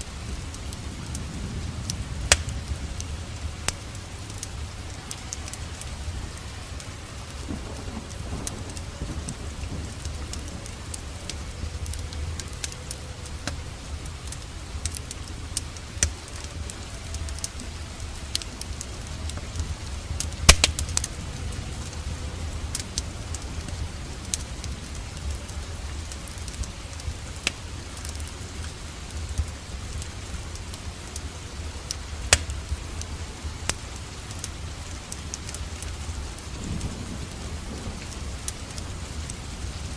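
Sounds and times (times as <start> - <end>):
fire crackling and popping: 0.0 - 39.9
steady low rumble: 0.0 - 39.9
steady rain falling: 0.0 - 39.9.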